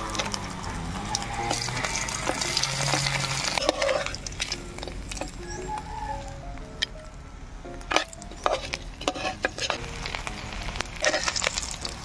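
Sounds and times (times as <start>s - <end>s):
fish frying in oil: 0.0s - 6.0s, 7.9s - 12.0s.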